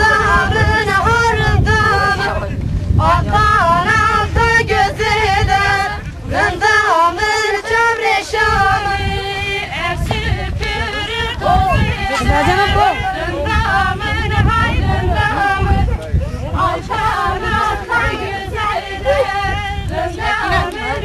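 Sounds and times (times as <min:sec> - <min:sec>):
folk singing: 0:00.0 - 0:21.0.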